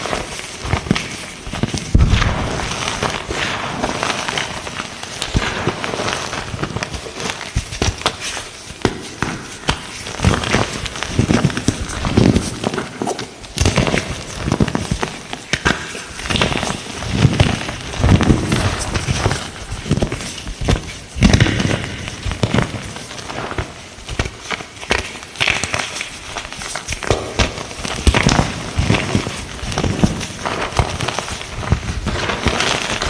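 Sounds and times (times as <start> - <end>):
chalk being crushed crunchy: 0.0 - 33.0.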